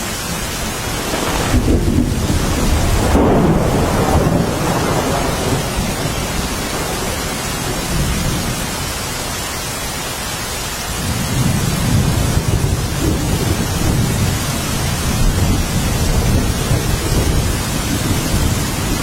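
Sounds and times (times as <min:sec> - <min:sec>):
low rolling thunder: 0:00.0 - 0:10.0, 0:10.9 - 0:19.0
steady rain: 0:00.0 - 0:19.0.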